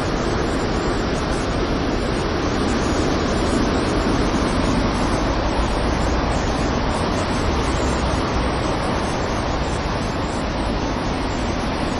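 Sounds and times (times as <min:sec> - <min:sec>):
waves crashing: 0:00.0 - 0:11.9.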